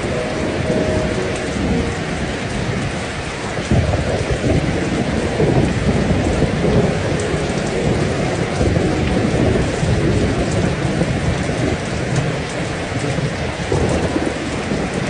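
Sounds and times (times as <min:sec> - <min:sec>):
low rumble: 0:00.0 - 0:12.6
heavy rain falling: 0:00.0 - 0:15.0.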